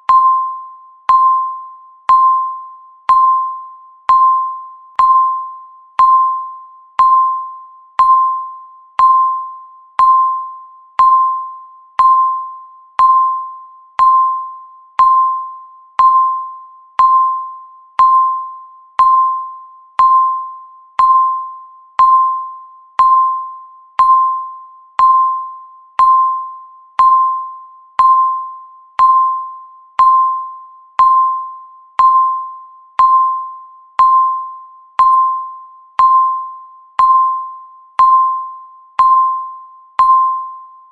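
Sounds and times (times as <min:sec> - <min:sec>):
electronic timer beeps: 0:00.0 - 0:40.9.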